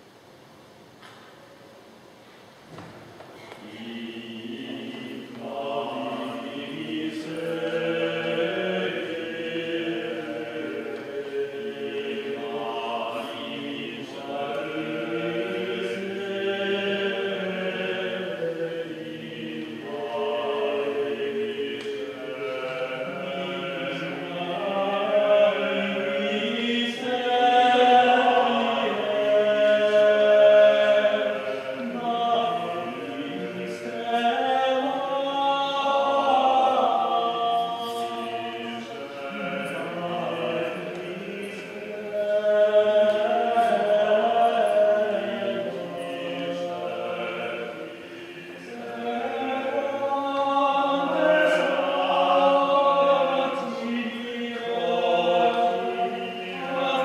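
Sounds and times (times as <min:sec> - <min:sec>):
choir singing liturgical chant: 0:02.7 - 0:57.0.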